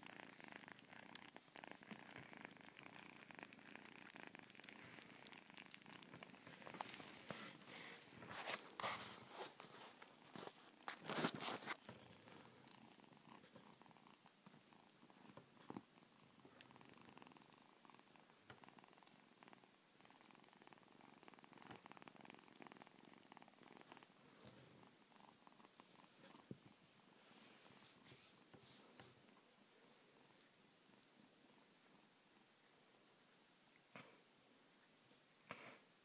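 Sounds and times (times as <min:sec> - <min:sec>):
kitten purring: 0:00.0 - 0:33.0.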